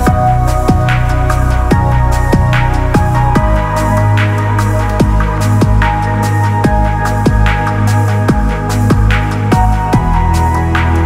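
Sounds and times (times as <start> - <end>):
downtempo electronic music: 0.0 - 11.0.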